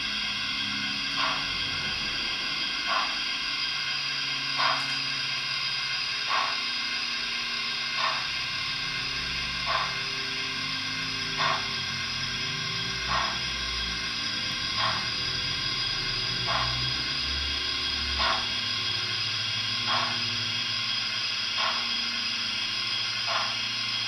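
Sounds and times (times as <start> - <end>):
model steam locomotive chuffs: 0.0 - 24.0
steady steam hiss: 0.0 - 24.0.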